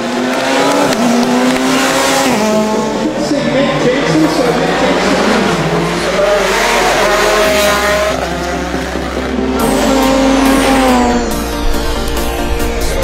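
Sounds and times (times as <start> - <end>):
rally car engines revving: 0.0 - 13.0.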